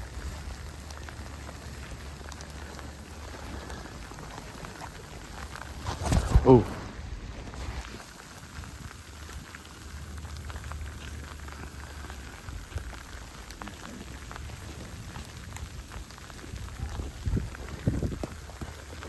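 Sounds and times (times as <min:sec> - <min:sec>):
snow crackling patter: 0:00.0 - 0:19.0
wind rumble on microphone: 0:00.0 - 0:19.0.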